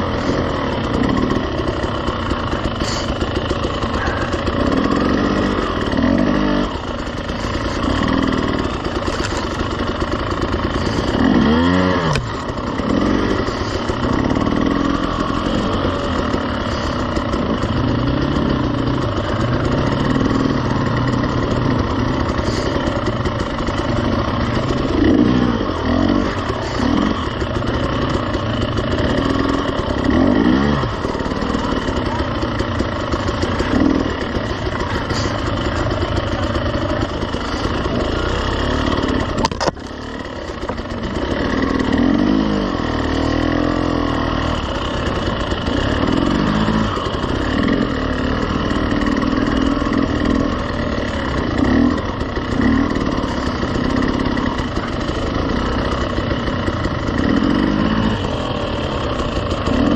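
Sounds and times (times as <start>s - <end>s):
dirt bike engine throttle blips: 0.0s - 59.9s.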